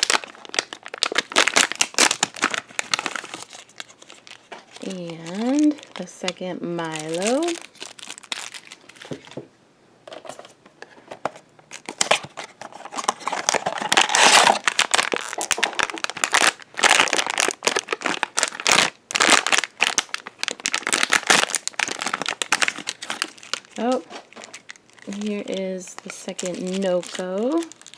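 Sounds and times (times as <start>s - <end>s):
package wrapper crinkling and tearing: 0.0s - 9.4s, 11.3s - 27.9s.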